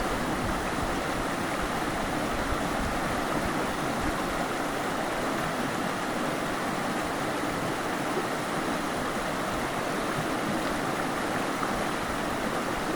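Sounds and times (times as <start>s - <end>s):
water rushing: 0.0s - 12.9s.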